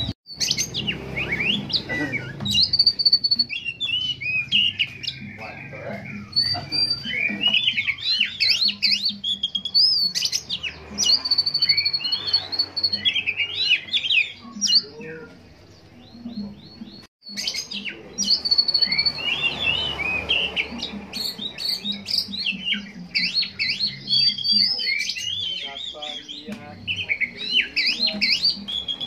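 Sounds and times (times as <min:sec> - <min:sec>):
bird singing chirps and whistles: 0:00.0 - 0:29.0.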